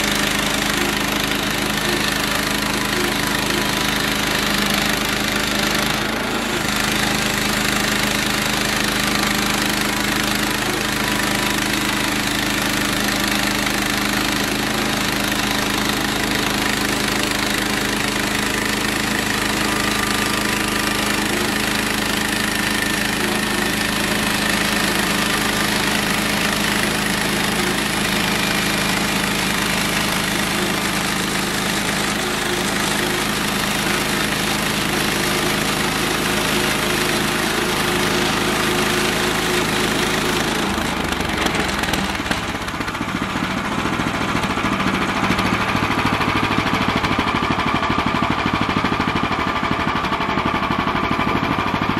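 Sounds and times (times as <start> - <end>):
saw blade cutting log: 0.0 - 51.9
small gas engine running: 0.0 - 51.9.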